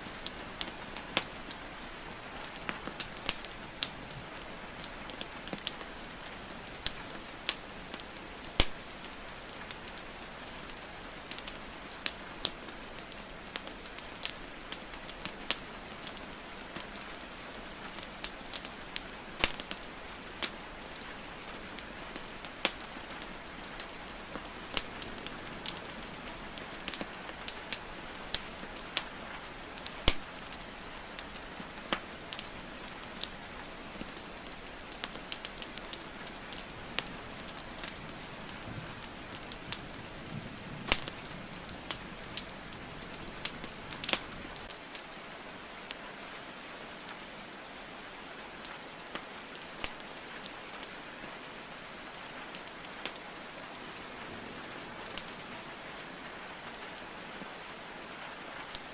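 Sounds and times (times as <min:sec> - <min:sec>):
rain falling: 0:00.0 - 0:58.9
wood fire crackling: 0:00.0 - 0:58.9.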